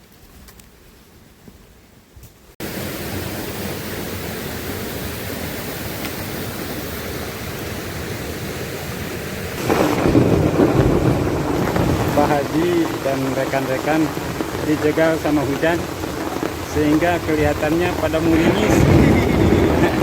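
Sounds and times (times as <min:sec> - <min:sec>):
heavy rain hissing: 0:02.6 - 0:20.0.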